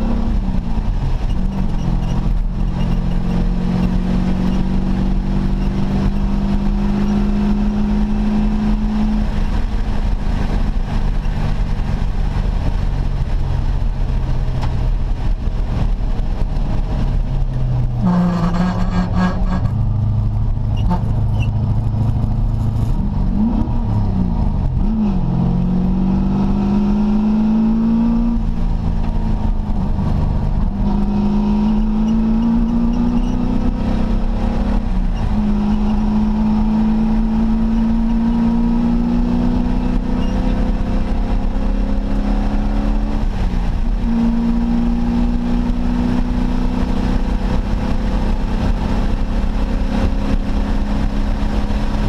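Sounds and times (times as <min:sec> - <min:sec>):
race car engine accelerating: 0:00.0 - 0:52.0
wind and road noise: 0:00.0 - 0:52.0.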